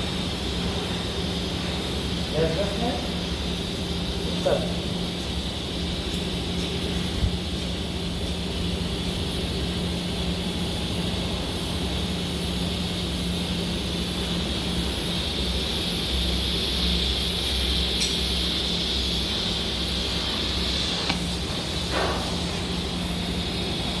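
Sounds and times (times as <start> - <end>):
hiss: 0.0 - 24.0
machinery hum: 0.0 - 24.0.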